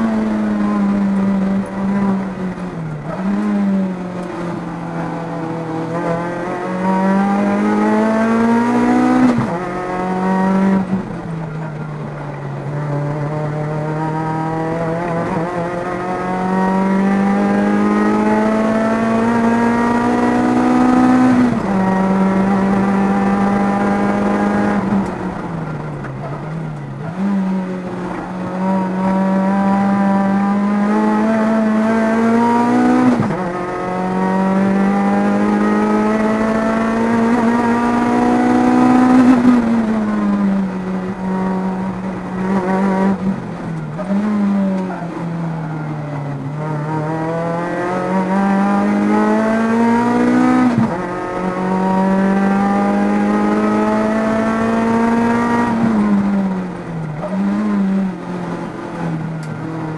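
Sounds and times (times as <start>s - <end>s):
car engine revving at full throttle: 0.0s - 59.9s.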